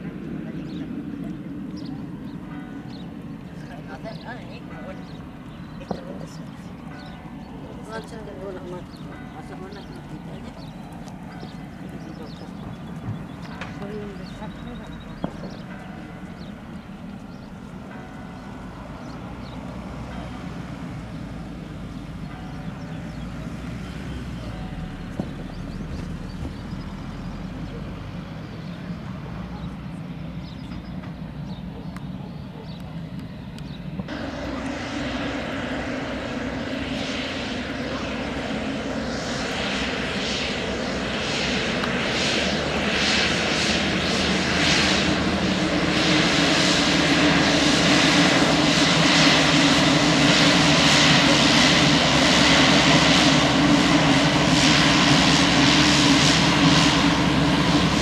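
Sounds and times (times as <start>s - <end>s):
turboprop engine running: 0.0s - 58.0s.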